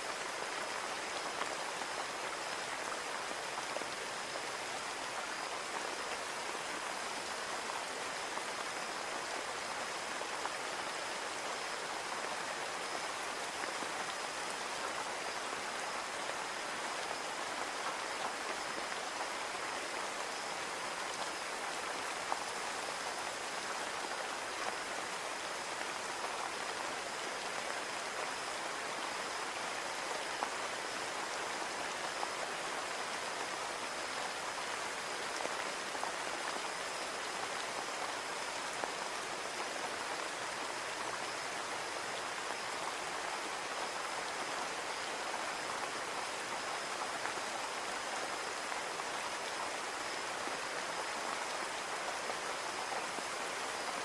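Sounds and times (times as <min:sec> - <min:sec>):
rain on a window pane: 0:00.1 - 0:54.0.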